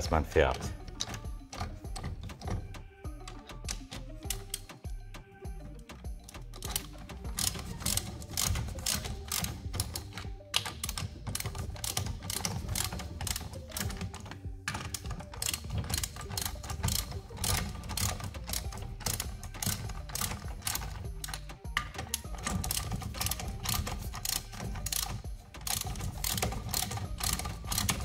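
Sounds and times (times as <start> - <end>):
background music with low beat: 0.0 - 28.0
socket ratchet clicking: 0.5 - 28.0.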